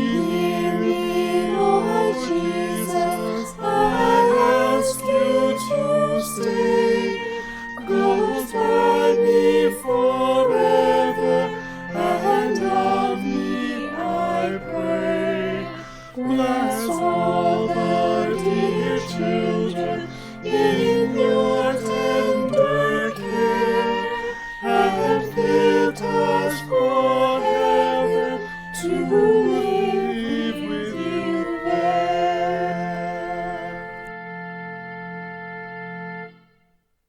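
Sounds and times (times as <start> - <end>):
voices singing with vibrato: 0.0 - 34.1.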